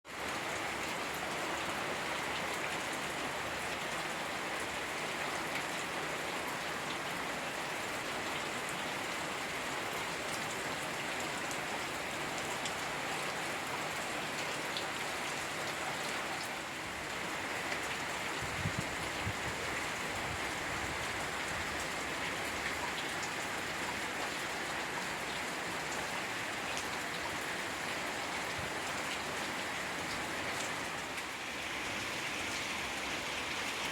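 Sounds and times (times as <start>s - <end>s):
rain on a hard surface: 0.0s - 33.9s.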